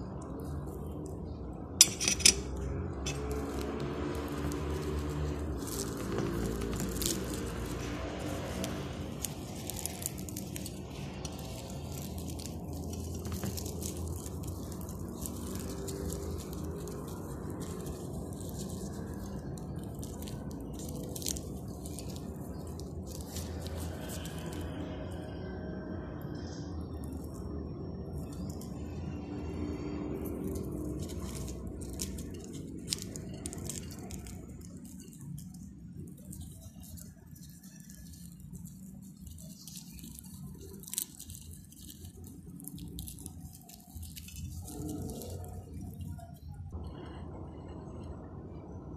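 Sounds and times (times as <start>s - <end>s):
pastry crackling as torn: 0.0s - 46.7s
low steady hum: 0.0s - 48.9s.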